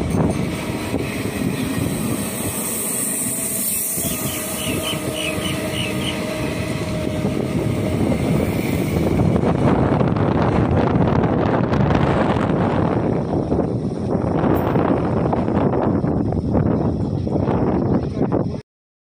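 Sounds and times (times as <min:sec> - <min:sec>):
train rumbling past: 0:00.0 - 0:18.6.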